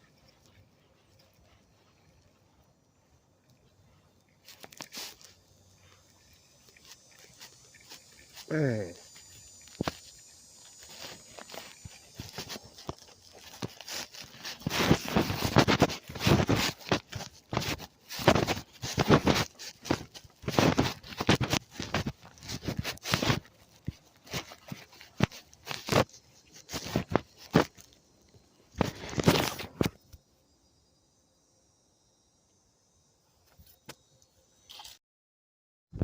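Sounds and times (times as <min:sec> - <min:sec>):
rustling and scraping: 0:00.0 - 0:30.2.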